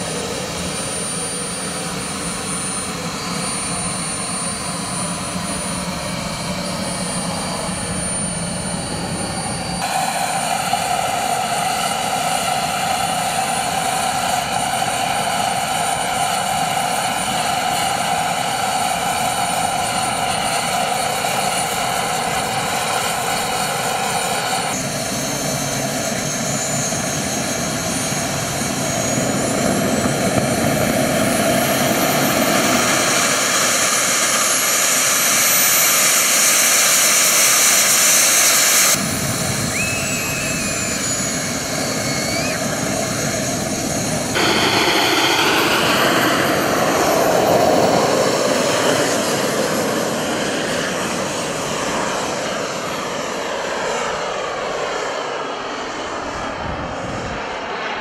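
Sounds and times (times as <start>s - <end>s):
model jet turbine whine: 0.0s - 58.0s.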